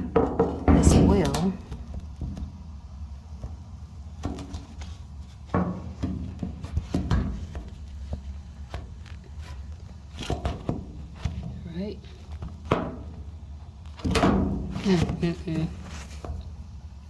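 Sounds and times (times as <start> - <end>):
handling knocks and clunks: 0.0 - 3.6, 4.2 - 16.6
low steady hum: 0.0 - 17.0.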